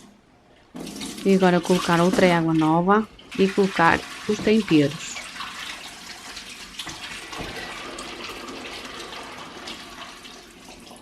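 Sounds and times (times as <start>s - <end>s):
water running and splashing: 0.8s - 11.0s.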